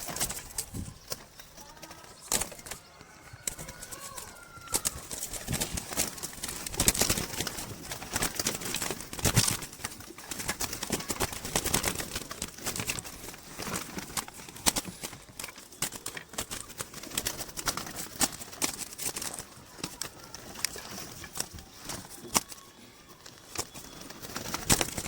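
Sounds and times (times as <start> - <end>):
handling rustles: 0.0 - 25.0.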